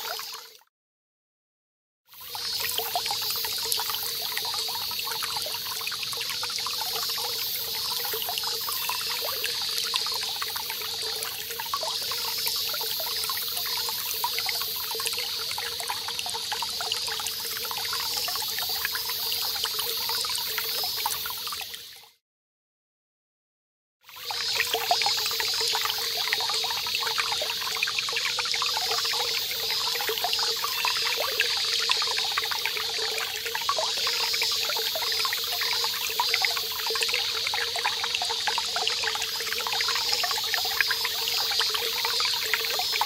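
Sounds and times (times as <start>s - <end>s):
cicadas singing: 0.0s - 0.6s, 2.2s - 22.0s, 24.1s - 43.0s
small stream trickling: 0.0s - 0.7s, 2.1s - 22.2s, 24.0s - 43.0s.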